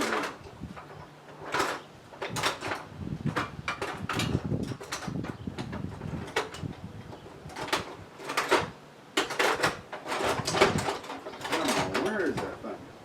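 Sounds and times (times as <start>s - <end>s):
hand tools clattering and clinking: 0.0s - 12.6s.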